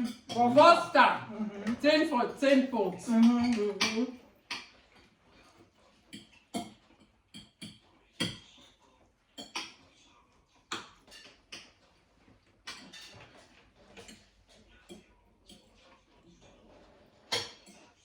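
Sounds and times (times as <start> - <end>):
cutlery clinking against plates: 0.0 - 1.0, 1.6 - 10.1, 10.7 - 18.0.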